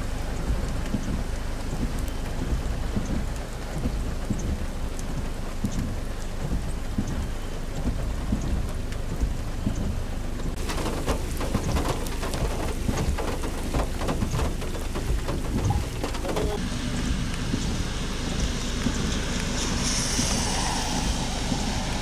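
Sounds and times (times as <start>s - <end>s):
heavy rain on floodwater: 0.0s - 22.0s
steady low rumble: 0.0s - 22.0s.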